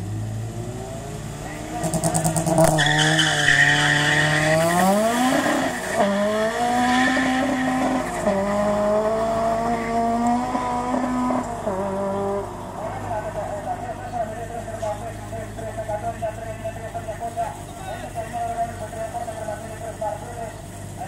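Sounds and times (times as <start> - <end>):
car engines revving through gears: 0.0 - 21.0.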